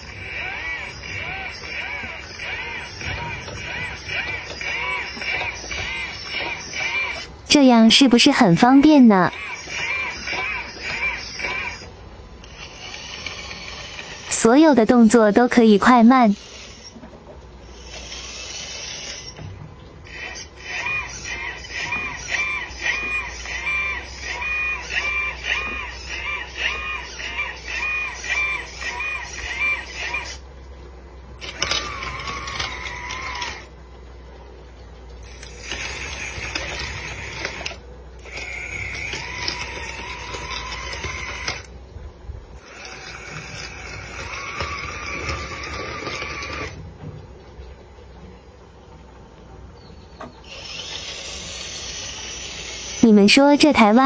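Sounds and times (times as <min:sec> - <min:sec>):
hydraulic pump motor whining: 0:00.0 - 0:30.5, 0:31.3 - 0:33.8, 0:35.1 - 0:41.8, 0:42.6 - 0:47.0, 0:49.8 - 0:54.0.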